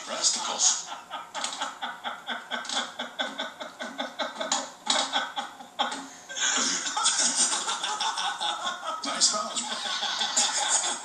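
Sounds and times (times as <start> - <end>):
men laughing hard: 0.0 - 11.0.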